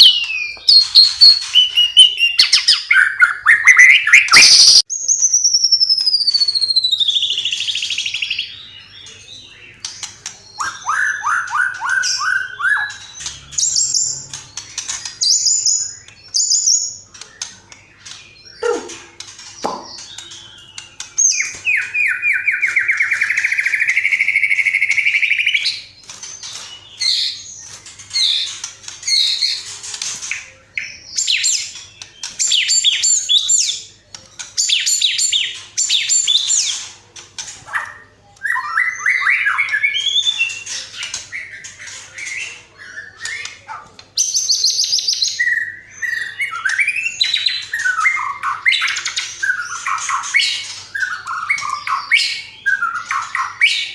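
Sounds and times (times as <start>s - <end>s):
bird song trills and whistles: 0.0s - 53.9s.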